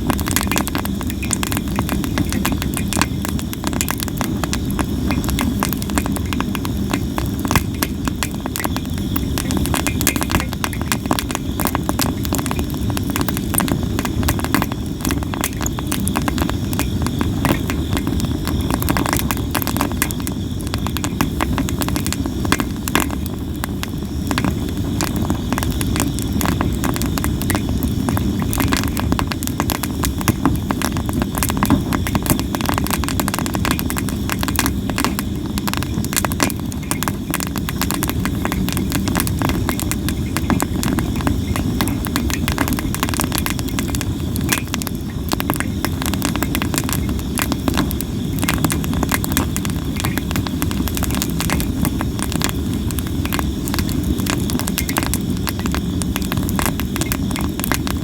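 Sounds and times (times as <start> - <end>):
campfire crackling and popping: 0.0 - 58.0
fire low rumble: 0.0 - 58.0.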